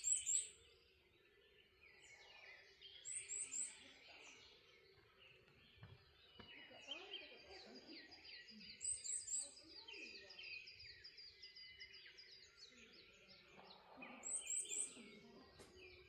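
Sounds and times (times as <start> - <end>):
birds chirping rapidly: 0.0 - 16.0.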